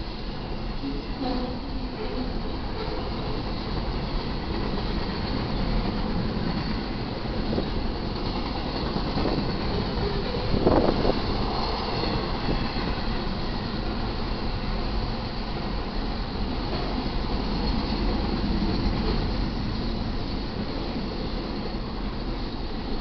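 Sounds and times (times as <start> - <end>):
freight train wheels rumbling on track: 0.0 - 23.0.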